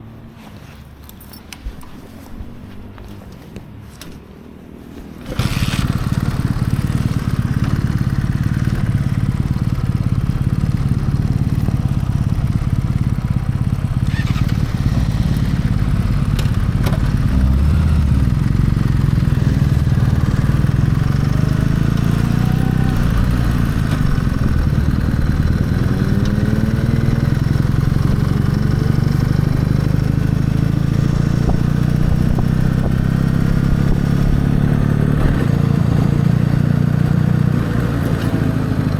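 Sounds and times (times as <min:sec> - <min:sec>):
motorcycle engine running: 0:01.1 - 0:38.9.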